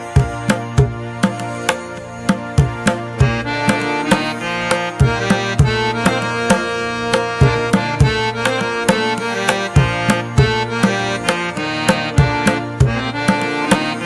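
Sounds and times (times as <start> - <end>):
sustained melody line: 0.0 - 14.0.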